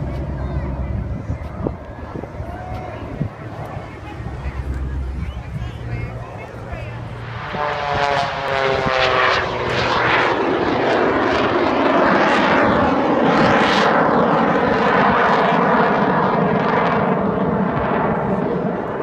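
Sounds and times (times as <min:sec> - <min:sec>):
airplane engine drone: 0:00.0 - 0:19.0.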